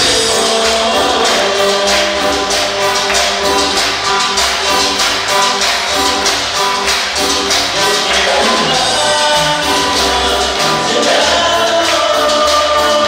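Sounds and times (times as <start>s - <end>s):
choir singing with band: 0.0s - 5.0s, 5.9s - 13.0s
congregation hand-clapping: 0.0s - 13.0s.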